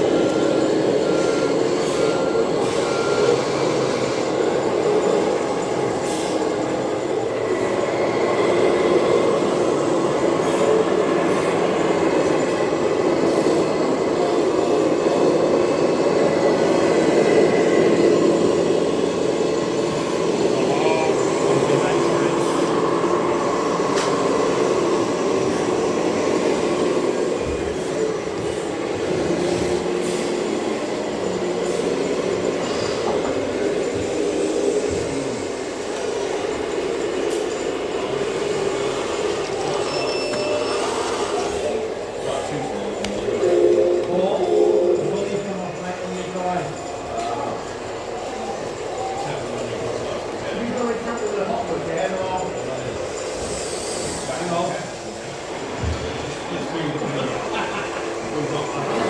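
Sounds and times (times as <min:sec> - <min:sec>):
model trucks mechanical drone: 0:00.0 - 0:59.0.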